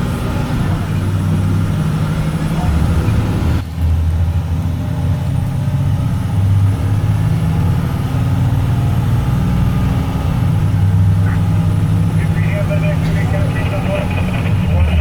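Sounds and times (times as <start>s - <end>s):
diesel bus engine droning: 0.0s - 15.0s.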